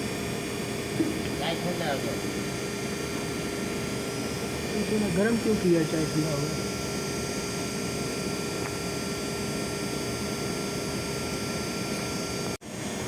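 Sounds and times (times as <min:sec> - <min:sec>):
machine humming with high whine: 0:00.0 - 0:13.0.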